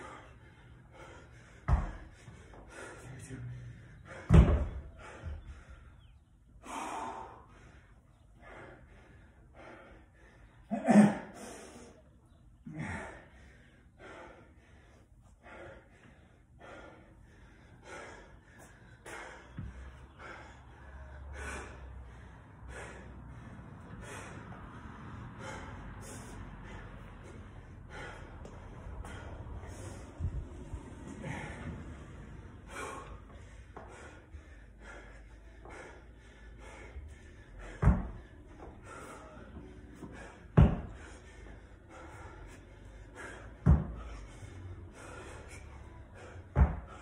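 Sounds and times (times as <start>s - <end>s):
man panting hard: 0.0s - 47.0s.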